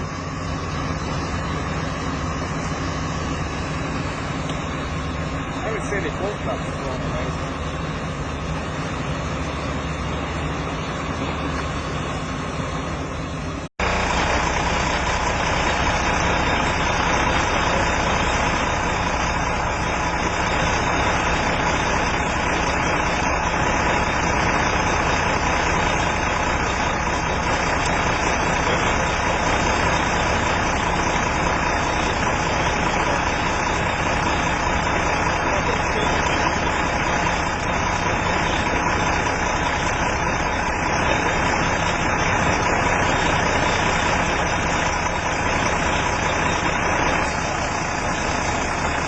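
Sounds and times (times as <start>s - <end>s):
vehicle engines idling: 0.0s - 49.0s.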